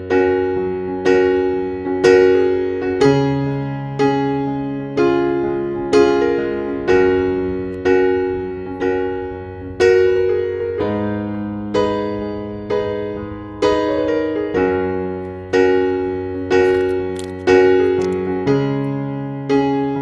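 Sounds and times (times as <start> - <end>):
gentle electric piano chords: 0.0 - 20.0.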